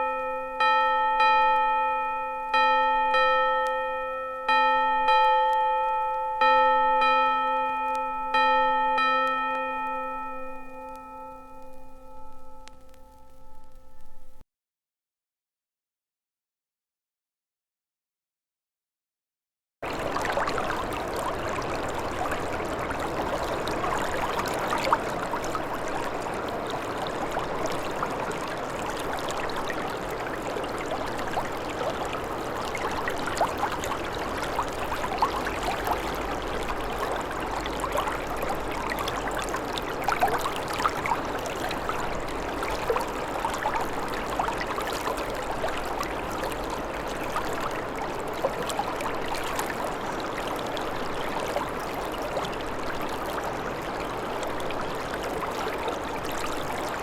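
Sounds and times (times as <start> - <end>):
running water: 0.0 - 14.4, 19.8 - 57.0.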